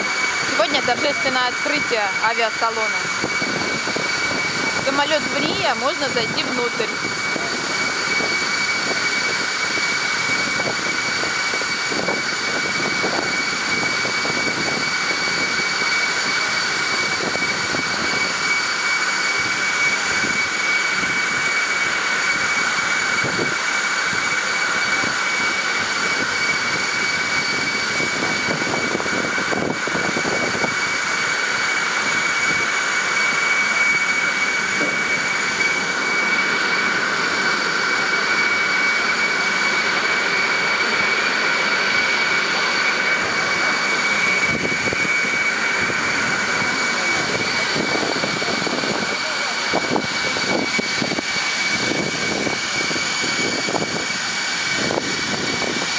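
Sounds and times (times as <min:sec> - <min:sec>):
aircraft turbine whine: 0:00.0 - 0:55.9.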